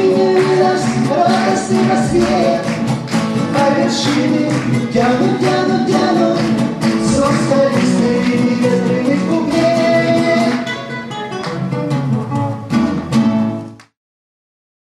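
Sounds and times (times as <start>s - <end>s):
acoustic guitar strumming: 0.0s - 13.8s.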